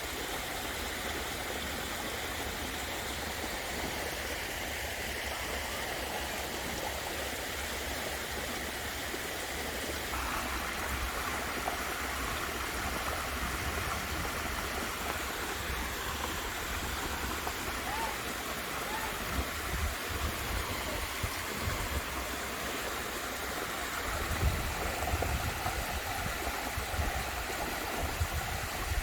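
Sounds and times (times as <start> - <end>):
waterfall splashing and rushing: 0.0 - 29.0.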